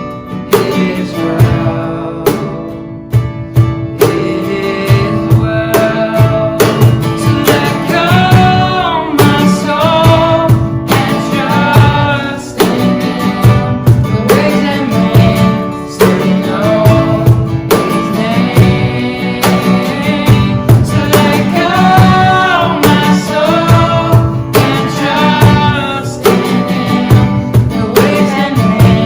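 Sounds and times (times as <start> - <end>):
strummed acoustic guitar: 0.0 - 29.0
person singing: 0.4 - 2.9, 4.0 - 29.0.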